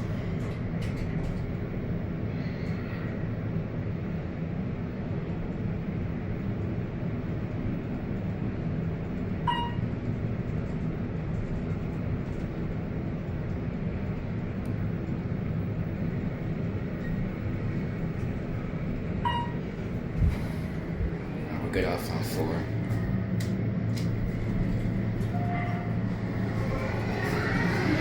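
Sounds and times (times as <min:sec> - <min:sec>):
elevator hum and rumble: 0:00.0 - 0:28.0.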